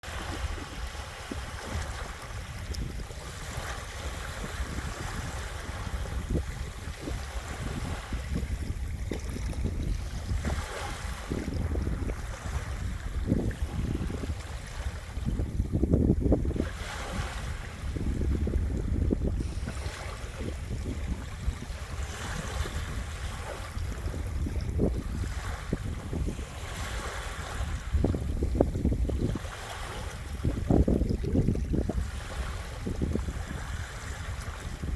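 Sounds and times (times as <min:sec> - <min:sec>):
waves washing onto beach: 0:00.0 - 0:34.9
wind rumble on microphone: 0:00.0 - 0:34.9.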